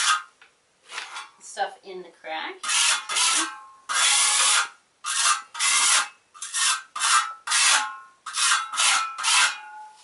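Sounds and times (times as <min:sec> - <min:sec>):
hand tool scraping earthen floor: 0:00.0 - 0:01.4, 0:02.6 - 0:10.0.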